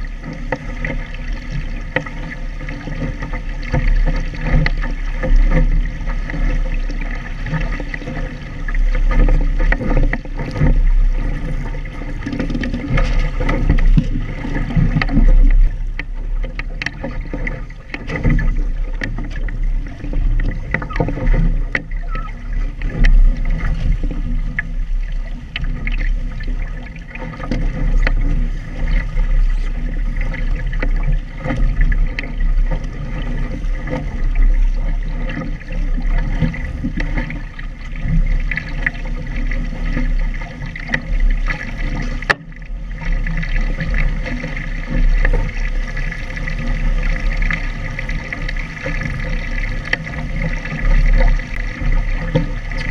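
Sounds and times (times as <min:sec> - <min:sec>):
splashes and knocks: 0:00.0 - 0:52.9
water rushing along boat hull: 0:00.0 - 0:52.9.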